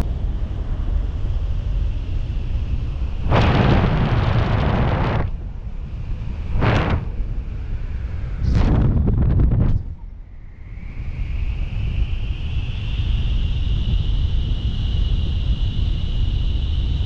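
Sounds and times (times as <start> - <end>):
wind buffeting gusts: 0.0 - 15.8
wind rushing over microphone: 0.0 - 17.0.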